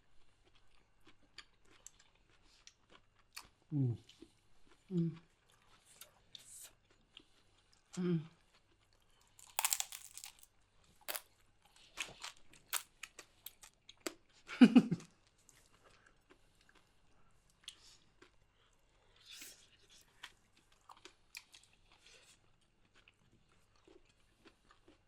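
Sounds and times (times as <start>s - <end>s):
chewing crispy pork skin: 0.2s - 14.3s, 15.0s - 25.0s.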